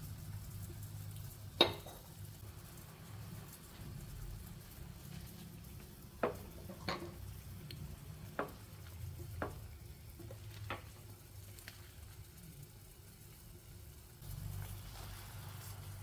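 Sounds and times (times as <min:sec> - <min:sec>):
soup boiling with low bubbling: 0:00.0 - 0:16.0.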